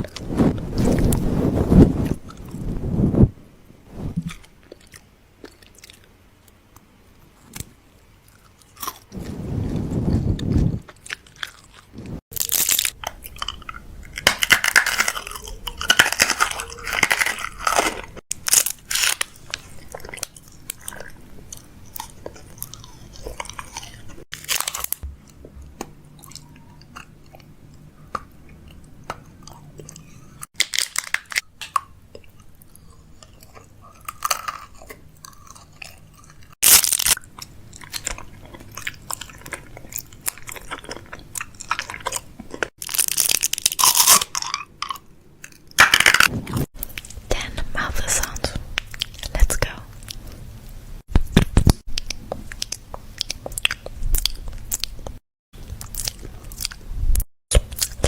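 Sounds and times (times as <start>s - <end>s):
chewing and crunching food: 4.2s - 58.0s.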